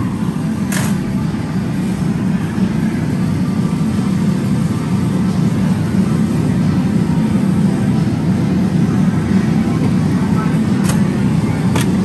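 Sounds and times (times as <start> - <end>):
loud low rumble of gaming hall: 0.0 - 12.0.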